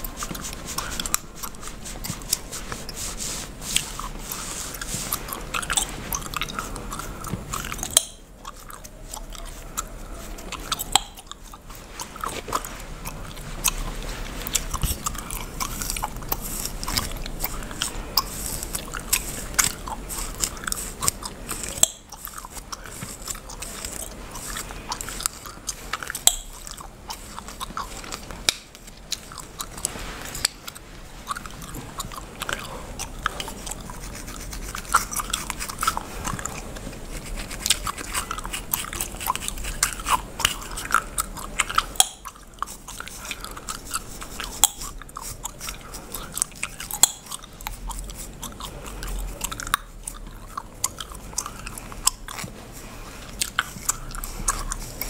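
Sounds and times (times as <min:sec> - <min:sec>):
comb scratching through hair: 0:00.0 - 0:07.8, 0:08.5 - 0:48.4.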